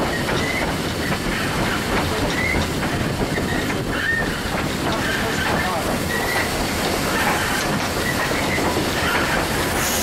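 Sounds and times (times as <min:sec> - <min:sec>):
train wheels rumbling and clattering: 0:00.0 - 0:10.0
wheel flange squeals: 0:00.1 - 0:02.7, 0:03.3 - 0:10.0.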